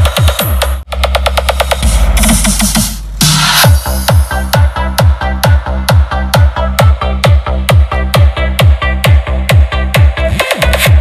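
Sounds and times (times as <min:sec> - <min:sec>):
deep kick drum: 0:00.0 - 0:11.0
electronic dance music: 0:00.0 - 0:11.0.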